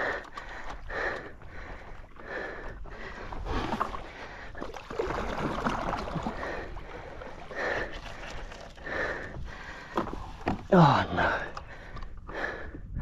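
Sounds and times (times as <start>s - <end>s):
water sloshing against a board: 0.0s - 12.8s.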